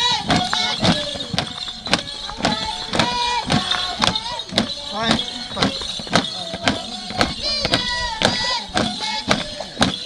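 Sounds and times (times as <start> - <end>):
folk singing and melody: 0.0 - 10.0
steady percussive beat: 0.0 - 10.0.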